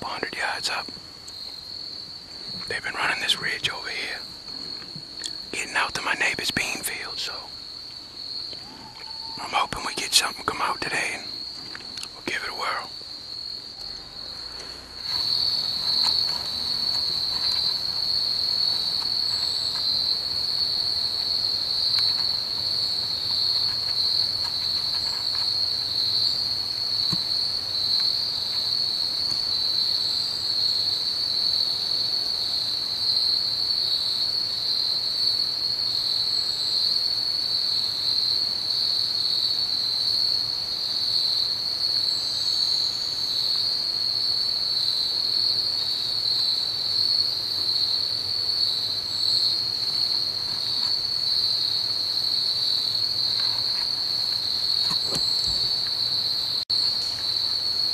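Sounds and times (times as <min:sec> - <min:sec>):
insects shrill drone: 0:00.0 - 0:57.9.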